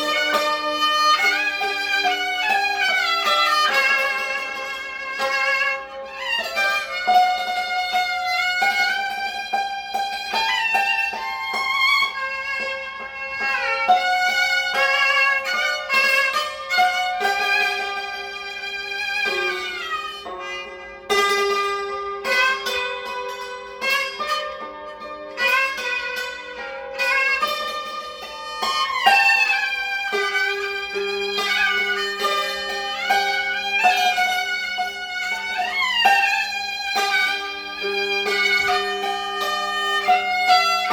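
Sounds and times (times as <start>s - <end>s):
hammered dulcimer: 0.0s - 40.9s
two-string fiddle melody: 0.0s - 40.9s.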